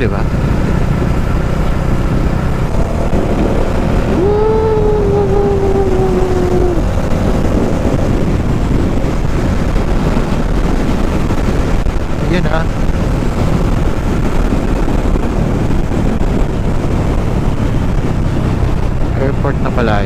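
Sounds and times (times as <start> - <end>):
motorcycle engine and road noise: 0.0 - 20.0
wind rushing over microphone: 0.0 - 20.0.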